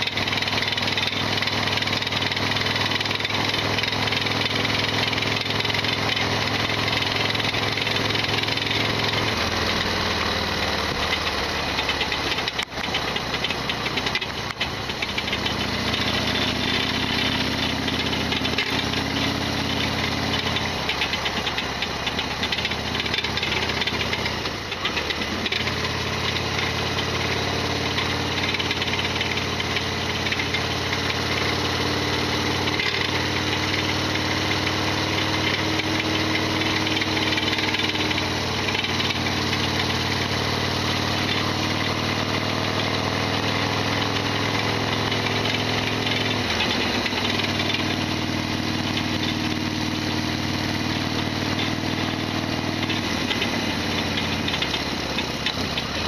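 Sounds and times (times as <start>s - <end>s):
loud mechanical rattling: 0.0s - 56.0s
motorcycle engine running: 0.0s - 56.0s.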